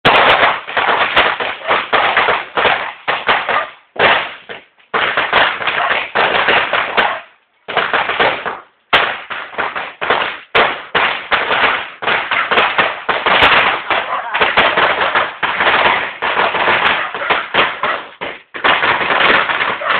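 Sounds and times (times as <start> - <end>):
firecrackers crackling bangs: 0.0 - 19.9.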